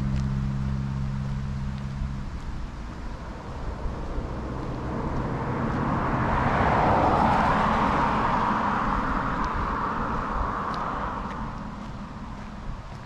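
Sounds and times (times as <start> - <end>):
car passing: 0.0 - 13.0.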